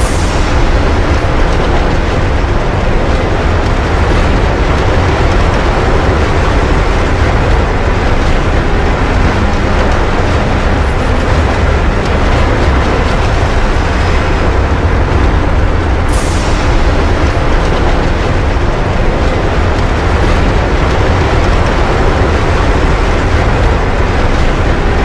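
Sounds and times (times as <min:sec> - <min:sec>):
roller coaster rumble: 0:00.0 - 0:25.0
wheels clattering on rails: 0:00.0 - 0:25.0.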